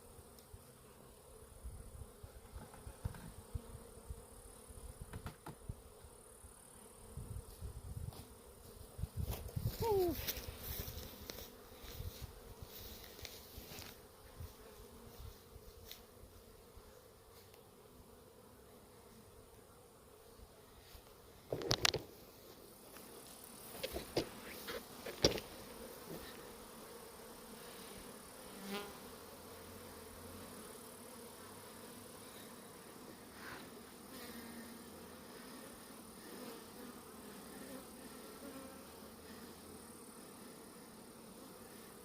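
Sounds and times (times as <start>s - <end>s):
honeybees buzzing: 0.0s - 42.0s
single bees flying past: 0.0s - 42.0s.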